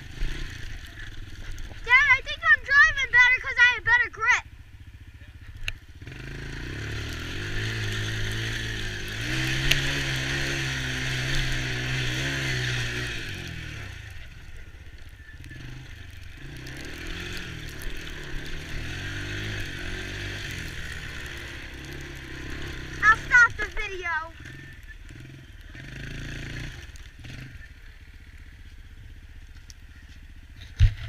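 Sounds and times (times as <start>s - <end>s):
small atv engine revving: 0.0s - 31.0s.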